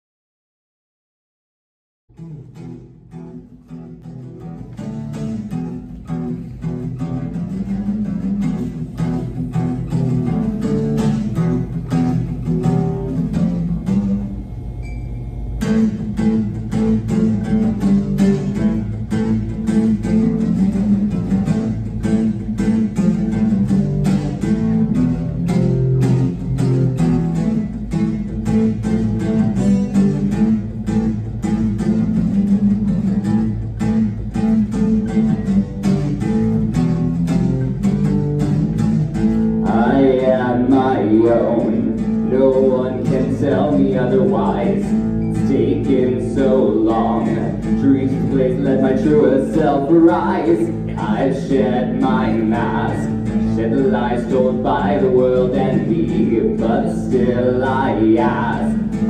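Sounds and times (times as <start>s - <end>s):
acoustic guitar strumming: 2.1s - 59.0s.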